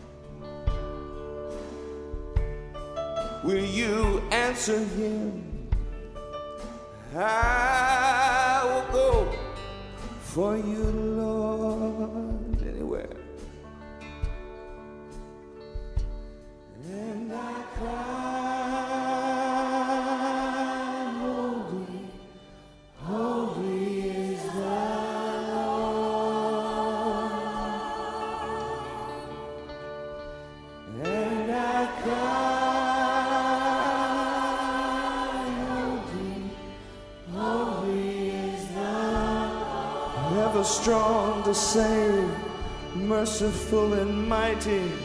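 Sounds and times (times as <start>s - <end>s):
gospel worship singing: 3.2s - 13.6s, 16.2s - 45.0s.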